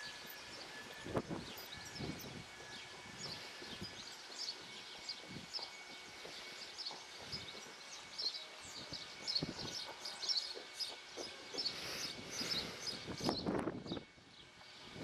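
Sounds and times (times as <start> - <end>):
small birds chirping: 0.1 - 14.6.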